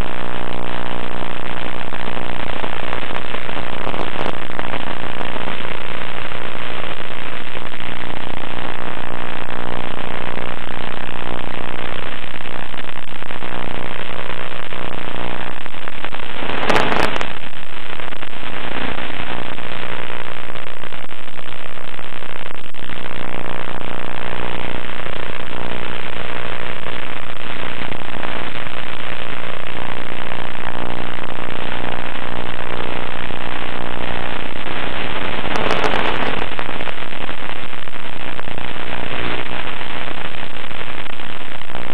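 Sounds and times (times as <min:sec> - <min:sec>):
radio hiss: 0:00.0 - 0:41.9
static crackle: 0:00.0 - 0:41.9.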